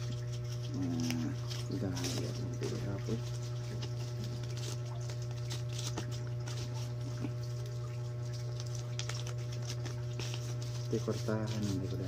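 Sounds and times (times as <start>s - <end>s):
banknotes rustling and flicking: 0.0s - 12.0s
steady low hum: 0.0s - 12.0s.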